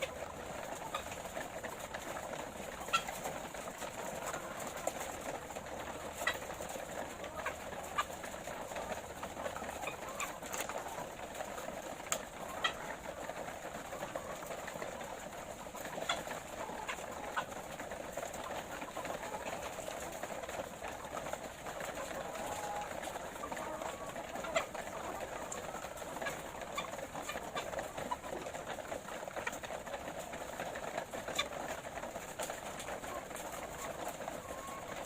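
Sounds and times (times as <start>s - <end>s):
hens murmuring and clucking: 0.0s - 35.0s.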